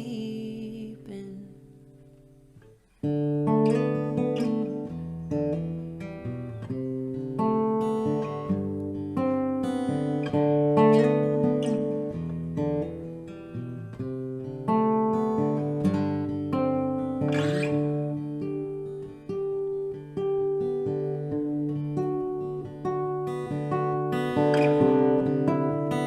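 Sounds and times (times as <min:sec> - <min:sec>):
guitar chords ringing: 0:00.0 - 0:26.0.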